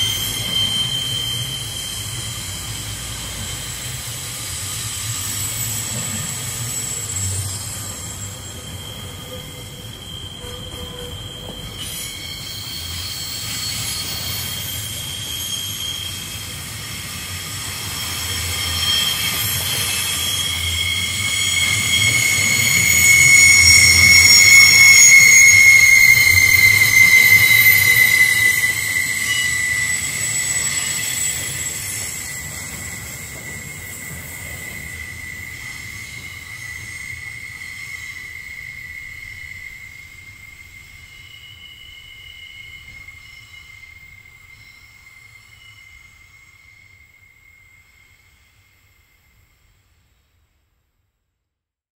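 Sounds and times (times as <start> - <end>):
train wheel flanges squealing: 0.0 - 50.0
low rumble of train wheels: 0.0 - 50.7.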